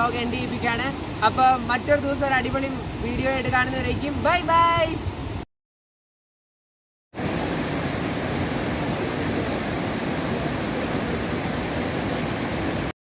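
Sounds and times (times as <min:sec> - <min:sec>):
waterfall rushing: 0:00.0 - 0:05.3, 0:07.2 - 0:12.9.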